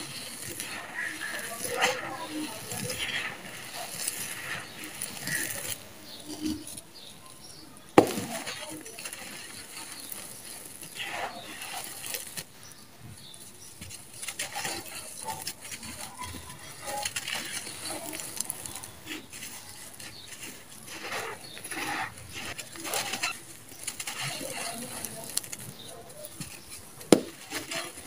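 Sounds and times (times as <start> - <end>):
sand pouring and pattering: 0.0 - 28.0.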